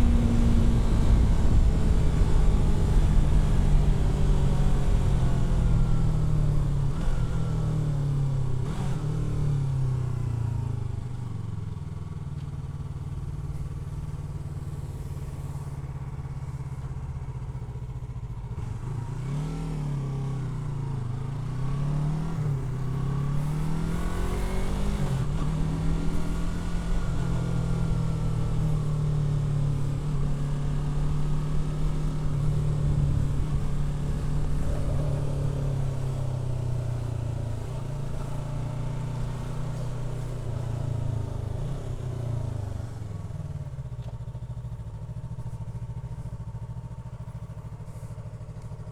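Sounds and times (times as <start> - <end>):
motorcycle engine revving: 0.0 - 10.2, 18.2 - 48.9.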